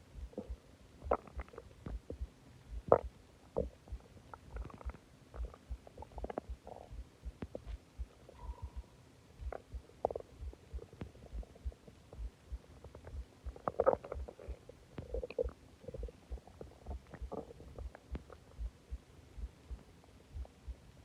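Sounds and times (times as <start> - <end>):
stomach gurgling and rumbling: 0.0 - 21.0.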